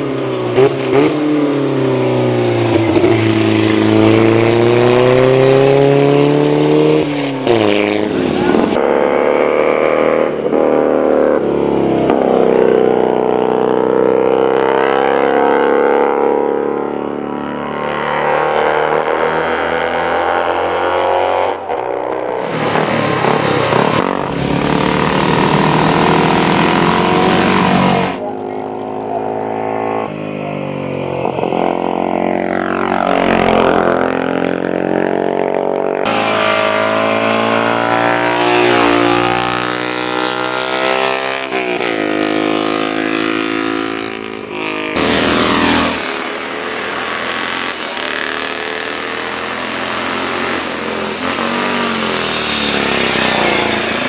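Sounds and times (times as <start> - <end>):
racing motorcycles revving and passing: 0.0 - 54.0.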